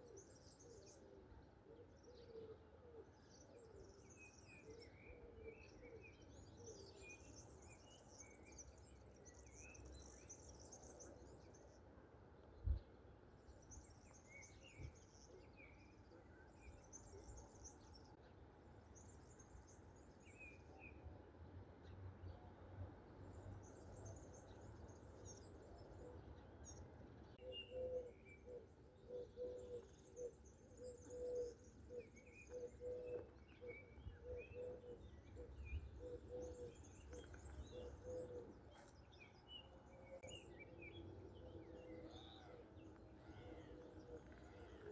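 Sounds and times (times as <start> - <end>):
faint songbirds chirping: 0.0 - 44.9.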